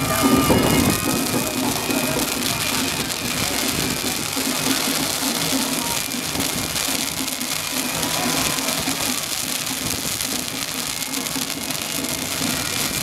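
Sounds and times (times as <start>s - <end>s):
fountain fireworks hissing and crackling: 0.0s - 13.0s.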